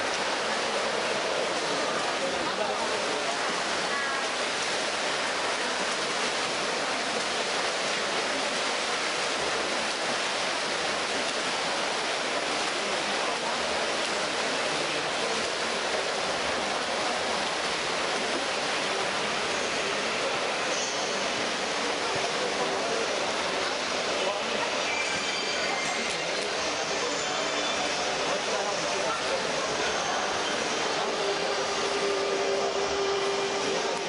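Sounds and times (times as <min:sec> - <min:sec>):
echoing pool hall din: 0:00.0 - 0:34.0
swimmers splashing water: 0:00.0 - 0:34.0.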